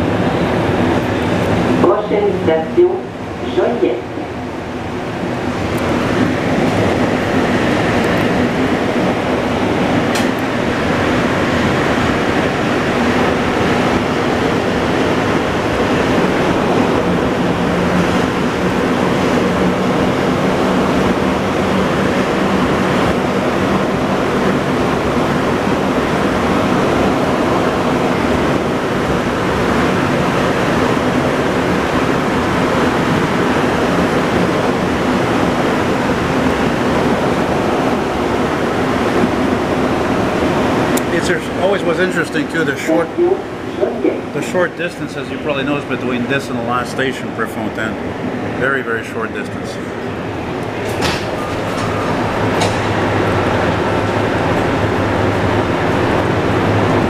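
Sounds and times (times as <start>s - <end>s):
train rumbling through tunnel: 0.0s - 57.0s.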